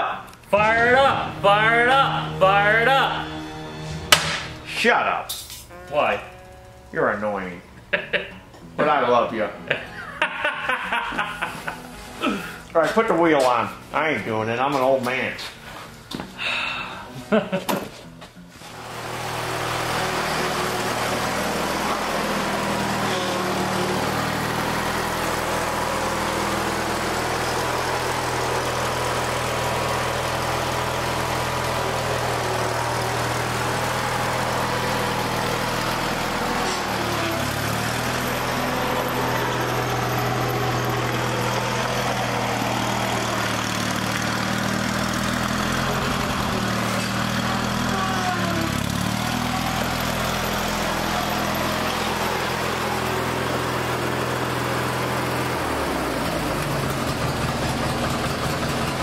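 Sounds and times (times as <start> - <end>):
garden tractor engine running: 0.0 - 17.0, 18.5 - 59.0.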